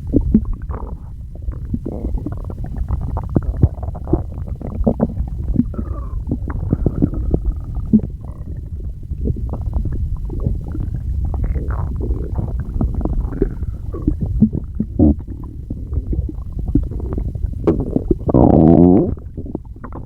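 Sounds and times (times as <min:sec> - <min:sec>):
stomach growling and gurgling: 0:00.0 - 0:20.0.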